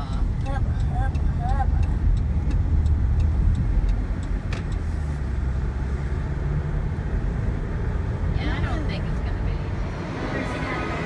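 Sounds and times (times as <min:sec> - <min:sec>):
car cabin engine rumble: 0:00.0 - 0:11.0
turn signal ticking: 0:00.0 - 0:11.0.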